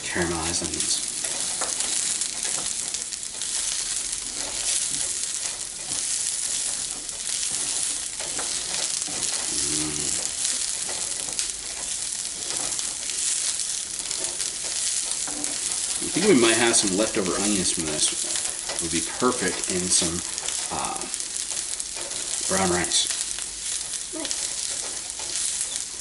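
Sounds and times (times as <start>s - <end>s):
onions sizzling in a pan: 0.0s - 26.0s
spatula scraping a pan: 0.2s - 26.0s.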